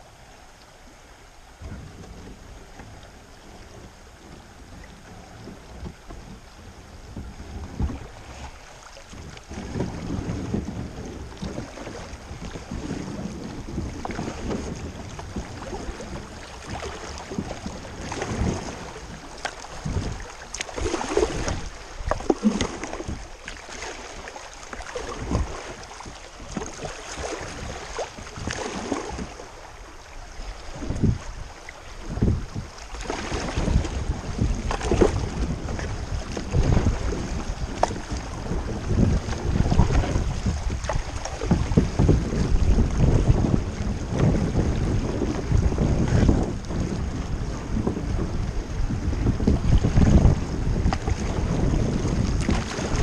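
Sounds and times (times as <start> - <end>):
paddle splashing in water: 0.0 - 53.0
water moving along plastic hull: 0.0 - 53.0
wind rumbling on microphone: 0.0 - 53.0.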